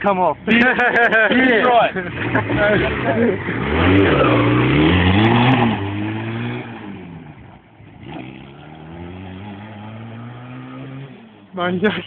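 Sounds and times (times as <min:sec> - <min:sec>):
quad engine revving: 0:01.9 - 0:12.0.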